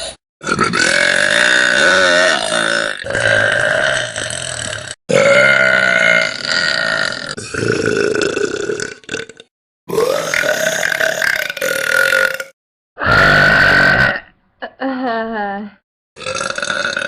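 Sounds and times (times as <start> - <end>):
girls burping loudly: 0.4 - 14.4.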